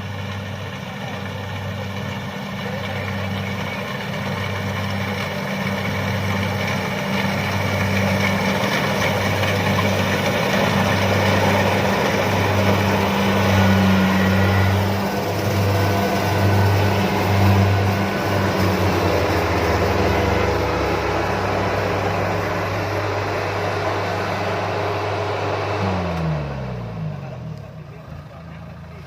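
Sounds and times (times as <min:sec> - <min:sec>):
combine harvester engine running: 0:00.0 - 0:29.0.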